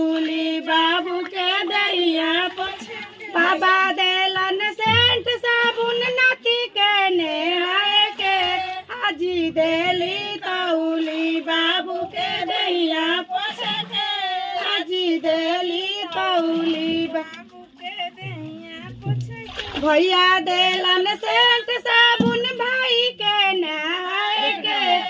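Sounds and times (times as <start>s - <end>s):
women and girls singing folk song: 0.0s - 25.0s.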